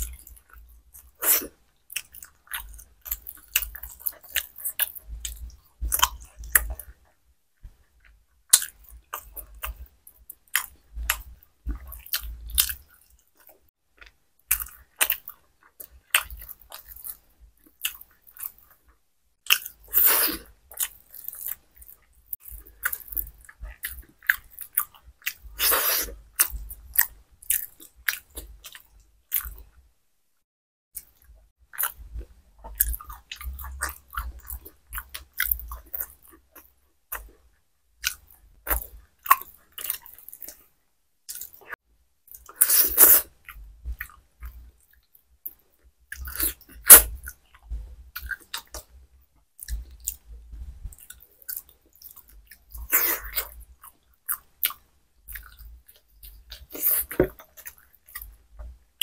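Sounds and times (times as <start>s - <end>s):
close chewing and mouth sounds: 0.0s - 29.9s, 31.0s - 59.0s.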